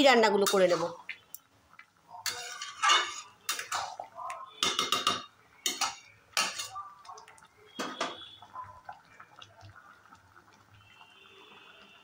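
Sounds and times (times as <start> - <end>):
chutney bubbling in a pan: 0.0 - 12.0.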